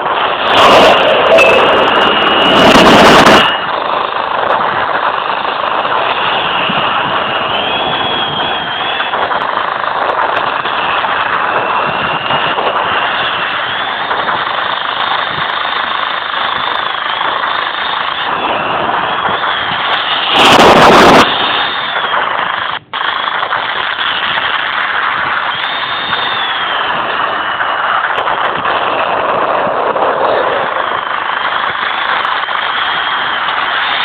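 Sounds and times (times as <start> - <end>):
jet engine turbine whine: 0.0 - 34.0
loud blast of noise: 0.0 - 34.0.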